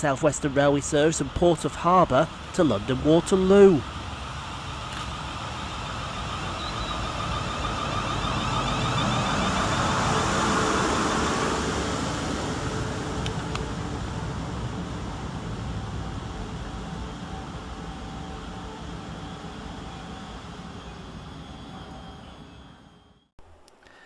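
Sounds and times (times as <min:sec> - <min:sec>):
electric train arriving: 0:00.0 - 0:24.0.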